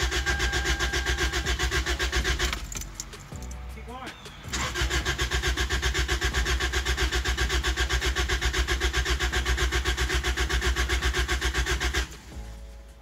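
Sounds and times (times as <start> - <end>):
starter cranking engine: 0.0 - 3.4, 4.5 - 12.3.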